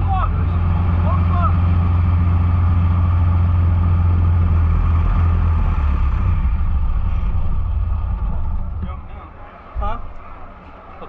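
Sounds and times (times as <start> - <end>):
riding lawnmower engine running: 0.0 - 10.6.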